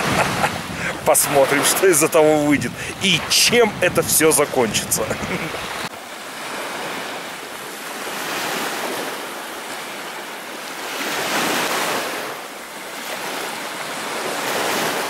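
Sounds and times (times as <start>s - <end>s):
waves washing up sandy shore: 0.0s - 15.0s.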